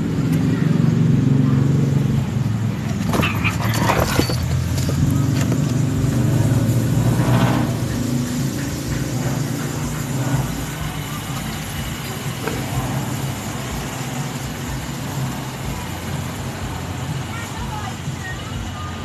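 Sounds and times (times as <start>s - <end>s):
constant background noise: 0.0s - 19.0s
vehicle engine running: 0.0s - 19.0s.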